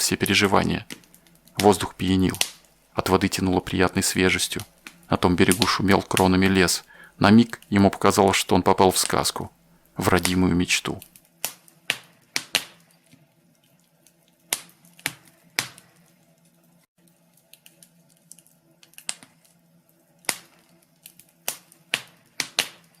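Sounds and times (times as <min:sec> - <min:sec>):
faint steady background noise: 0:00.0 - 0:23.0
wood fire crackling: 0:00.0 - 0:23.0.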